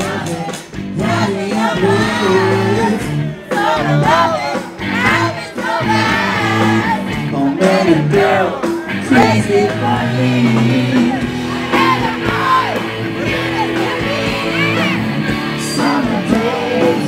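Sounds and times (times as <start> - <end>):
crowd shouting along: 0.0 - 17.0
live rock band with singing: 0.0 - 17.0.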